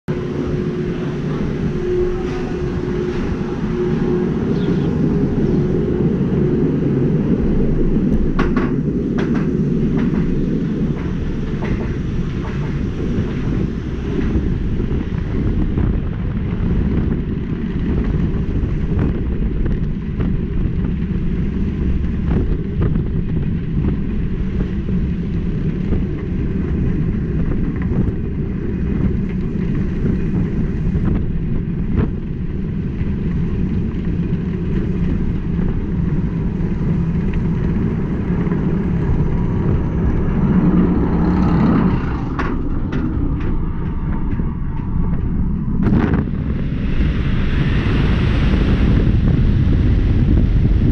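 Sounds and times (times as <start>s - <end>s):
roller coaster lift rumble: 0.0s - 50.9s.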